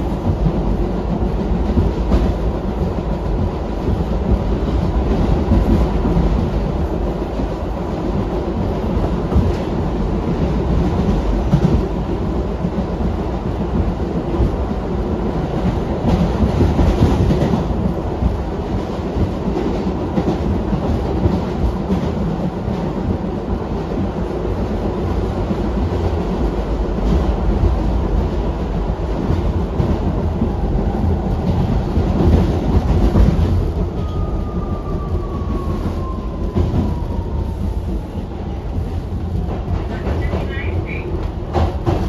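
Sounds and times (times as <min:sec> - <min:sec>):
subway train rumbling in tunnel: 0:00.0 - 0:42.0.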